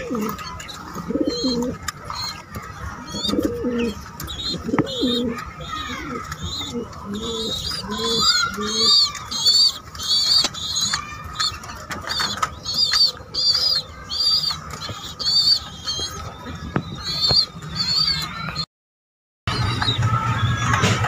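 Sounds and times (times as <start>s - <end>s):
pigeon squabs squeaky calls: 0.0s - 18.6s.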